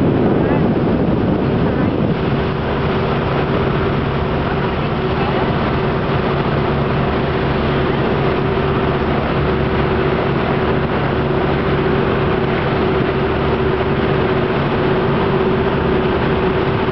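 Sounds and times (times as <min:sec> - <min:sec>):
boat engine droning: 0:00.0 - 0:16.9
water rushing: 0:00.0 - 0:16.9.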